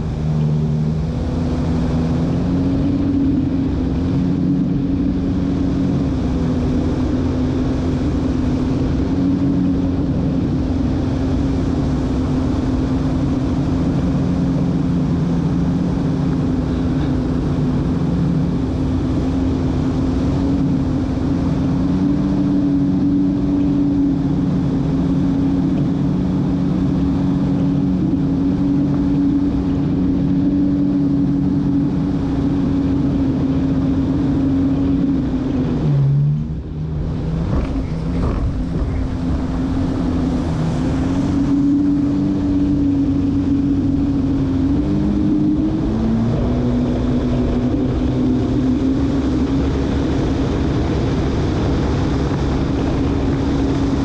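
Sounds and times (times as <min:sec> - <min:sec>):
jet ski engine drone: 0:00.0 - 0:54.0
wind: 0:00.0 - 0:54.0.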